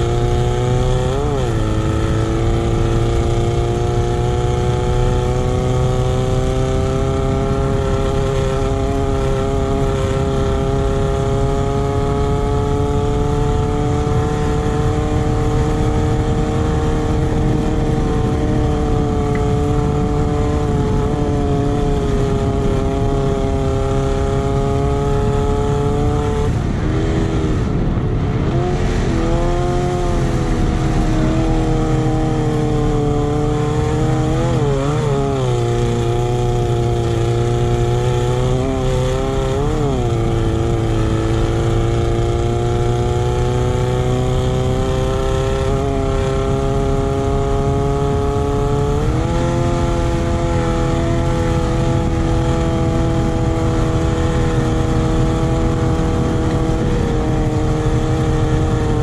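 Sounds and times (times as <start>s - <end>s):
buggy engine running at high revs: 0.0s - 59.0s
wind noise: 0.0s - 59.0s.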